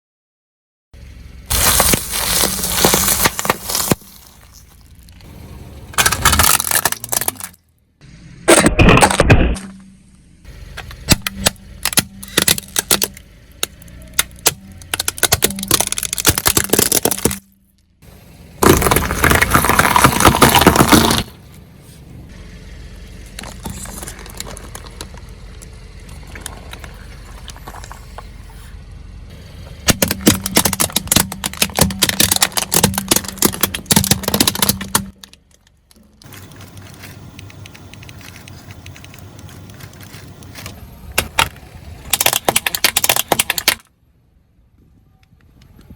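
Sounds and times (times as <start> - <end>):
tyres crunching objects: 1.4 - 7.7, 8.4 - 10.0, 10.6 - 43.9.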